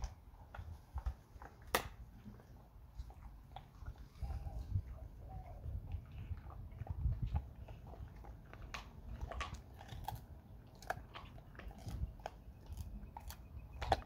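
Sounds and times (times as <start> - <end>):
dog chewing a bone: 0.0 - 14.0.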